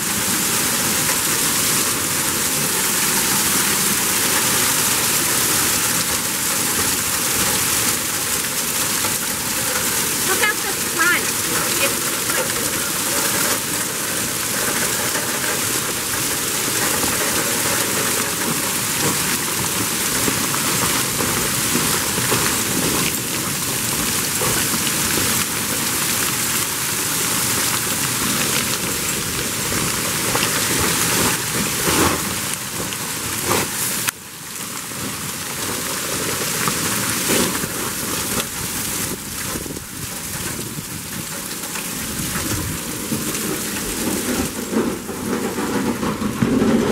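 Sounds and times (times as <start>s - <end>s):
hail and heavy rain pelting: 0.0s - 46.9s.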